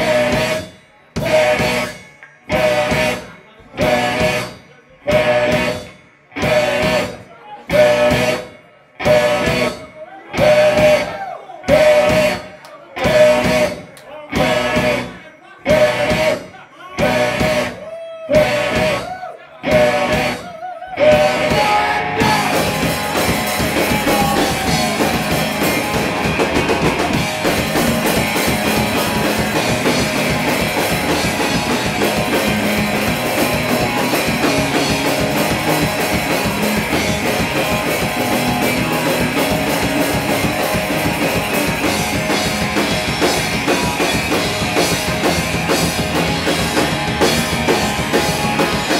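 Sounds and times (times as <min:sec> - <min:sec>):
distorted electric guitars: 0:00.0 - 0:48.9
drum kit: 0:00.0 - 0:48.9
rock band playing: 0:00.0 - 0:48.9.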